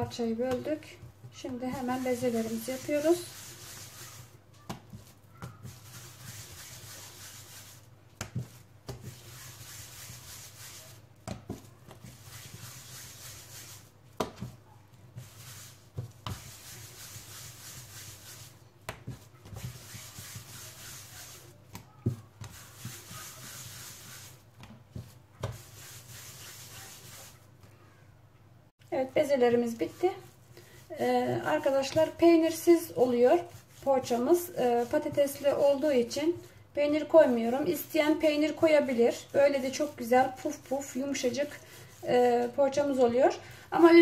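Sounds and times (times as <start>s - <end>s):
hands rubbing dough: 0.0s - 27.7s, 29.0s - 44.0s.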